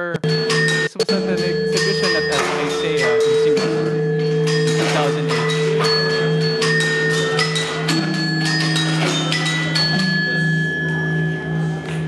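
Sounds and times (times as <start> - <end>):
metal percussion strikes ringing: 0.2 - 12.0.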